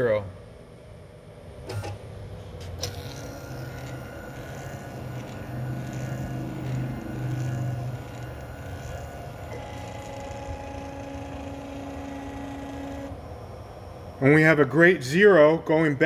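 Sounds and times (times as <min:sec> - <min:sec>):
machine motor whine over hum: 0:00.0 - 0:16.0.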